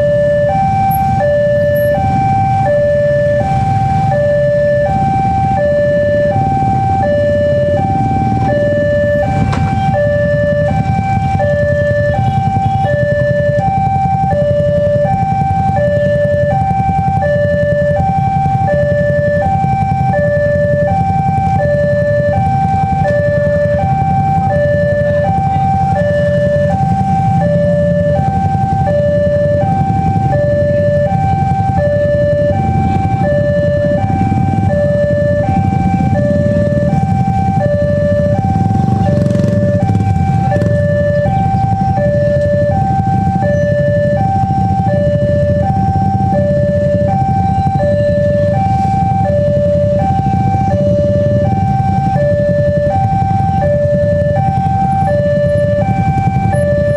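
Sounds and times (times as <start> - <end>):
idling engines rumble: 0.0 - 56.9
two-tone crossing alarm chime: 0.0 - 56.9.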